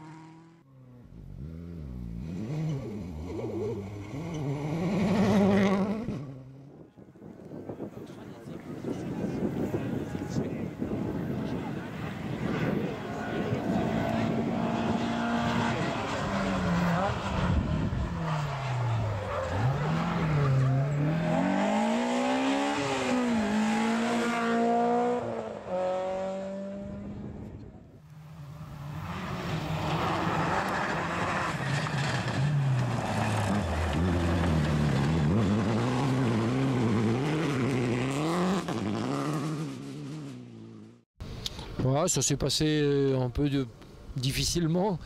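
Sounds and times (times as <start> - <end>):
rally car engine revving: 0.0 - 6.6, 8.6 - 40.9.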